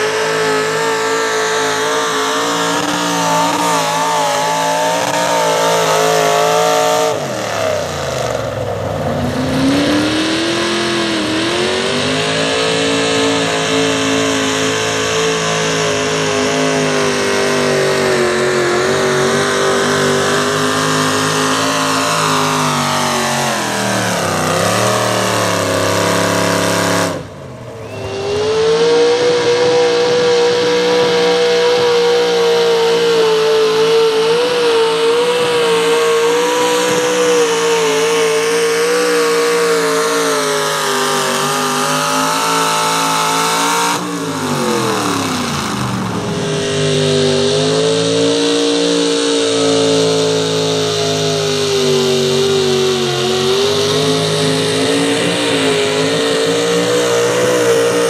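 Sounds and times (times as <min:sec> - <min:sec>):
engine running at full throttle: 0:00.0 - 0:58.0.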